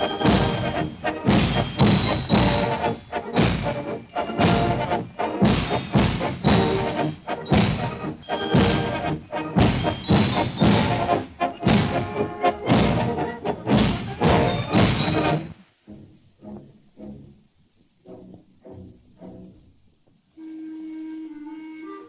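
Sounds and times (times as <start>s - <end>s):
orchestral film score music: 0.0s - 22.0s.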